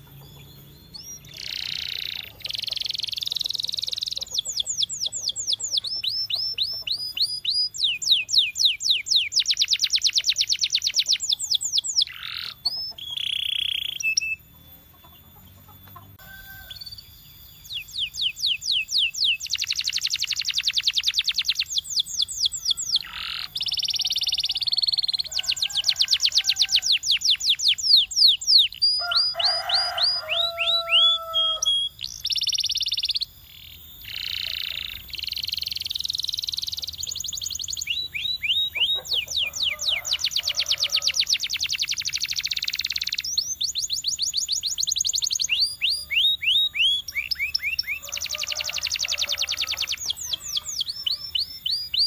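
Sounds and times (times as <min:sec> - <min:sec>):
canary singing rapid trills: 0:00.0 - 0:52.0.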